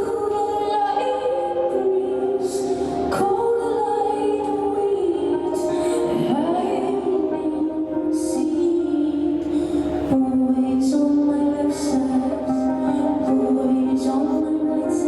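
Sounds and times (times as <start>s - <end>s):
live concert music: 0.0s - 15.0s
woman singing slow song: 0.0s - 15.0s.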